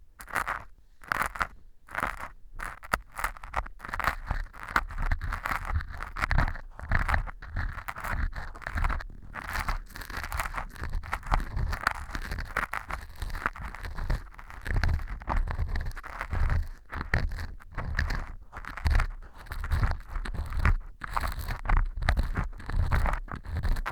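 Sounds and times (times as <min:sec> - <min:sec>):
earpick scraping and crunching: 0:00.2 - 0:23.9.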